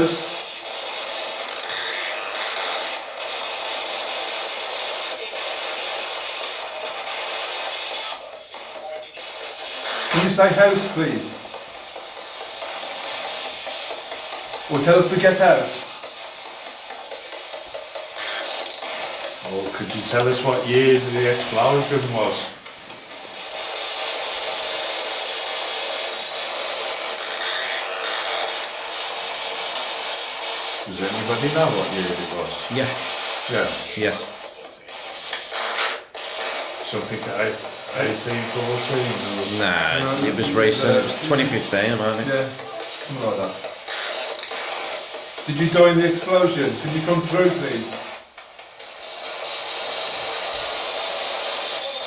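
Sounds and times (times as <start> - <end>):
radio static hiss: 0.0 - 52.0.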